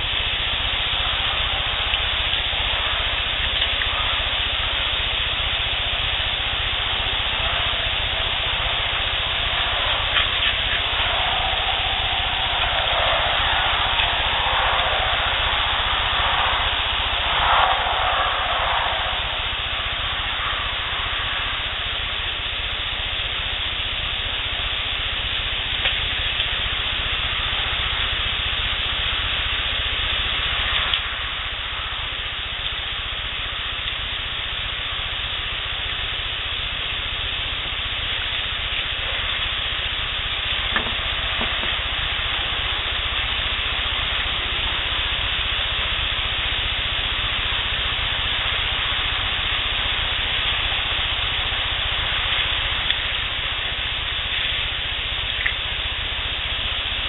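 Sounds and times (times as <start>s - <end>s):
low rumble: 0.0s - 56.8s
steady hiss: 0.0s - 57.0s.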